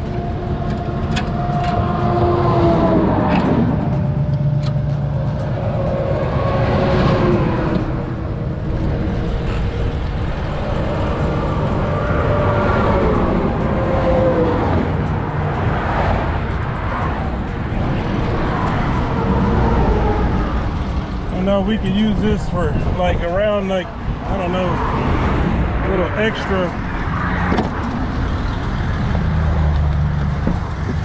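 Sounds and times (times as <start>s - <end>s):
highway traffic passing: 0.0s - 31.0s.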